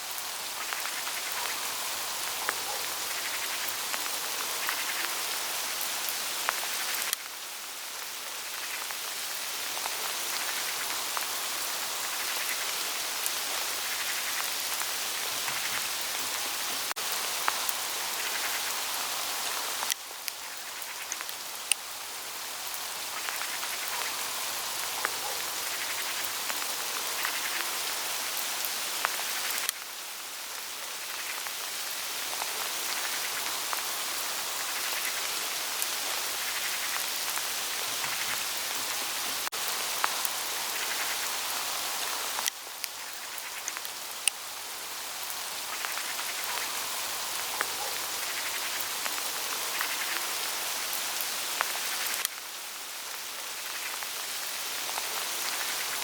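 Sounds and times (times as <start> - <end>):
hail ticking on leaves: 0.0 - 56.0
steady hiss of hail: 0.0 - 56.0.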